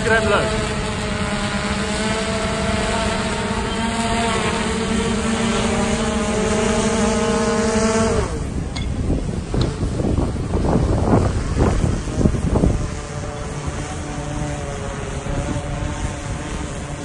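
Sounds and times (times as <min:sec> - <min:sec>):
drone propellers humming: 0:00.0 - 0:17.0
wind rumbling on microphone: 0:00.0 - 0:17.0.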